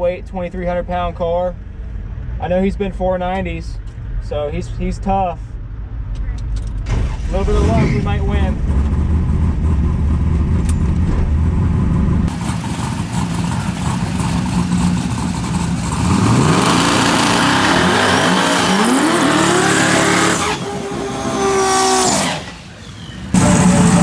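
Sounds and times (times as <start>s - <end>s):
drag race car engines at full throttle: 0.5s - 24.0s.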